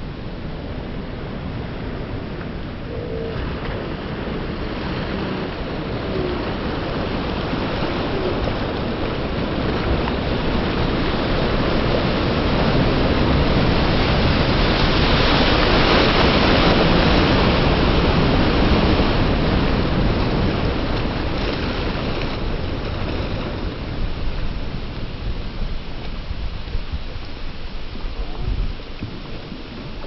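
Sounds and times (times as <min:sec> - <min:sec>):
ocean waves breaking on beach: 0:00.0 - 0:30.0.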